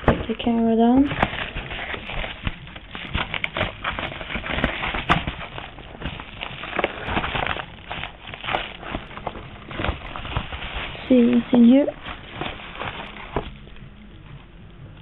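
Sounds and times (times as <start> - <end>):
envelope rustling and crackling: 0.0 - 15.0.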